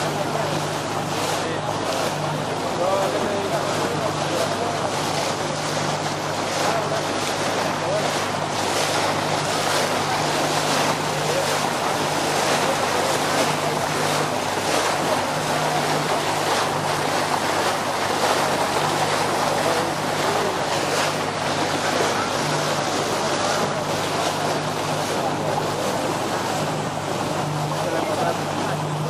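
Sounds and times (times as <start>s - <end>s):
boat engine hum: 0.0s - 29.0s
water rushing along hull: 0.0s - 29.0s.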